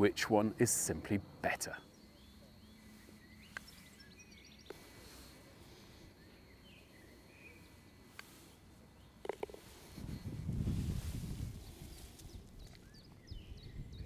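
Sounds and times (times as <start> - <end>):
distant bird chirps: 0.0 - 14.0.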